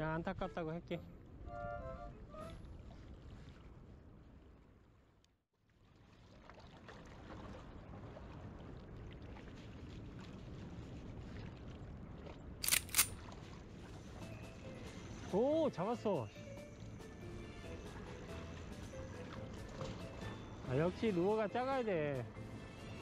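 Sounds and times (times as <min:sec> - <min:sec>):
water: 0:00.0 - 0:23.0
wind: 0:00.0 - 0:23.0.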